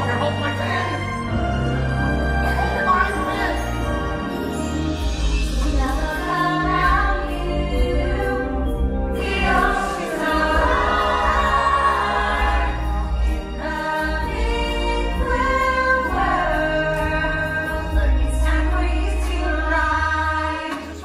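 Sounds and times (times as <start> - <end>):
choir singing long held notes: 2.6 - 21.0.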